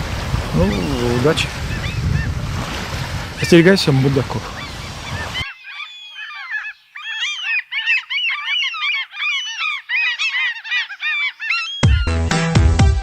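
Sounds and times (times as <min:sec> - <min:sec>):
flock of gulls calling: 0:00.6 - 0:02.4, 0:03.4 - 0:12.0.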